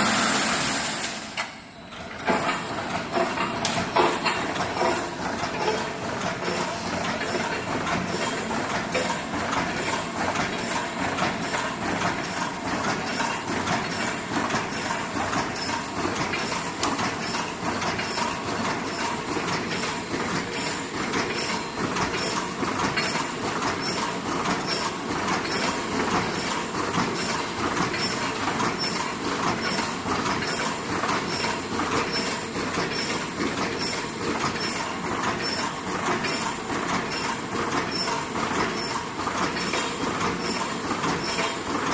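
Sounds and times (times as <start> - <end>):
welding machine clattering: 2.1 - 41.9.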